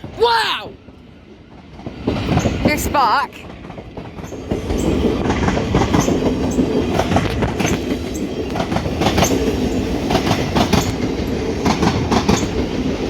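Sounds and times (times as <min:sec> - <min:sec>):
train rumbling past: 0:00.0 - 0:13.0
wheels clattering over rail joints: 0:00.9 - 0:13.0.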